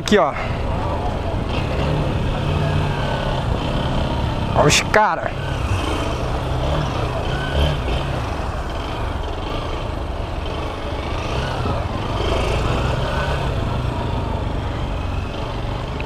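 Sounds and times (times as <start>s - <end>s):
street noise: 0.0s - 16.0s
motorcycle engine running: 0.4s - 16.0s.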